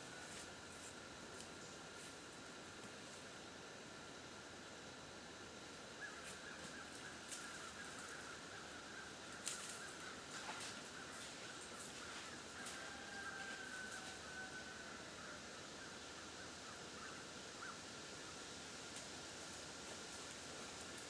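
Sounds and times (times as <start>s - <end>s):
steady woodland hiss: 0.0s - 21.0s.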